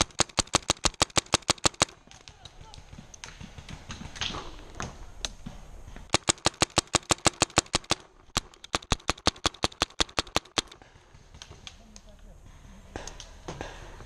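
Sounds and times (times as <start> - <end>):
paintball marker firing: 0.0 - 12.1, 12.9 - 14.0.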